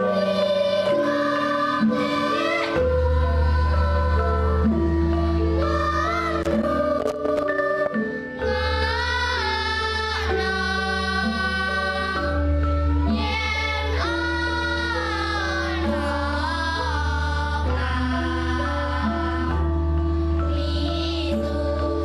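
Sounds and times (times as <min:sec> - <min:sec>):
children's choir singing: 0:00.0 - 0:22.0
instrumental accompaniment: 0:00.0 - 0:22.0.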